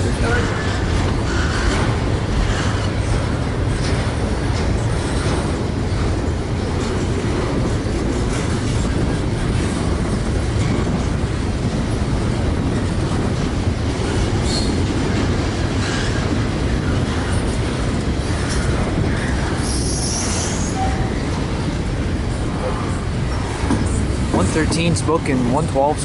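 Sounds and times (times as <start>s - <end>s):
clicking at rail joints: 0.0s - 25.8s
freight train rumbling past: 0.0s - 26.0s.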